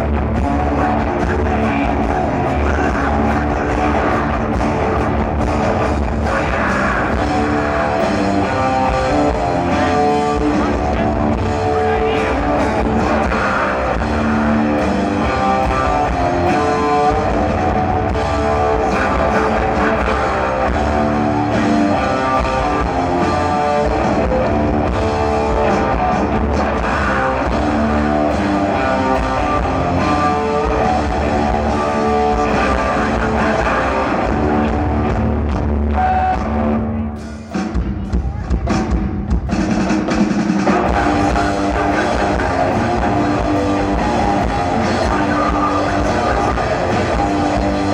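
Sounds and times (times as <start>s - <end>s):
drum kit: 0.0s - 47.9s
electric guitar: 0.0s - 47.9s
rock band playing live: 0.0s - 47.9s.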